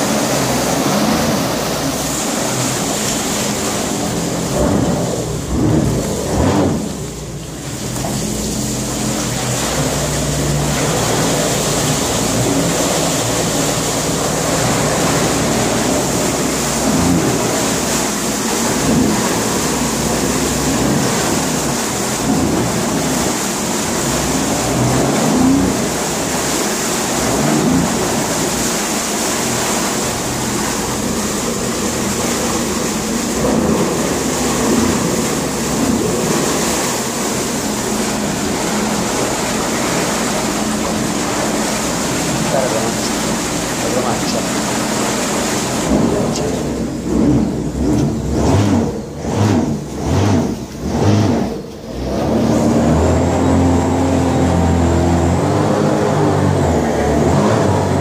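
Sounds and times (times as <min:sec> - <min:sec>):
water churning: 0:00.0 - 0:58.0
watercraft engine idling: 0:00.0 - 0:58.0.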